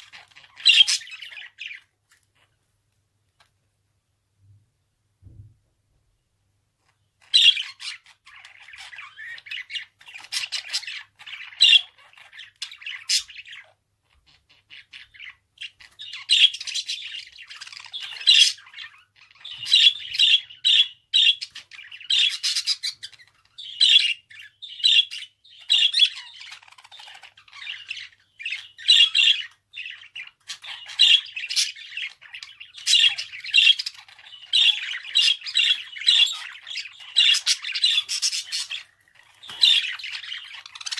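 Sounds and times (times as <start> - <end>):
budgerigar chattering and warbling: 7.3 - 40.9.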